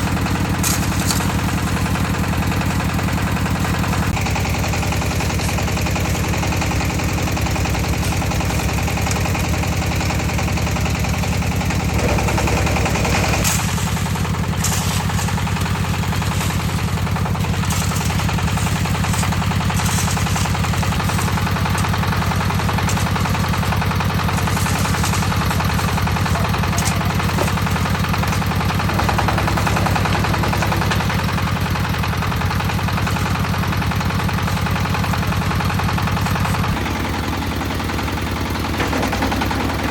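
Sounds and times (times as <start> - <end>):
concrete mixer engine chugging: 0.0 - 39.9
scraping and clattering: 0.4 - 10.6, 11.6 - 35.2, 38.5 - 39.9.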